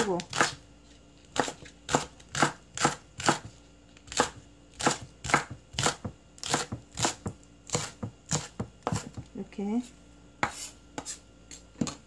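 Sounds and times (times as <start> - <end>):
knife slicing onion: 0.0 - 9.2, 10.4 - 12.0.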